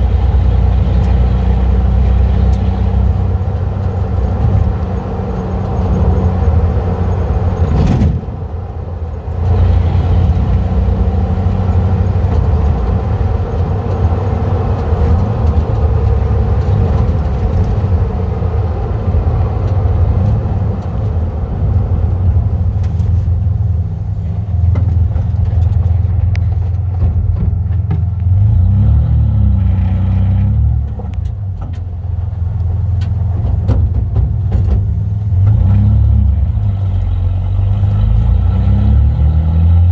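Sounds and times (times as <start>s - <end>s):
truck exhaust drone: 0.0s - 39.9s.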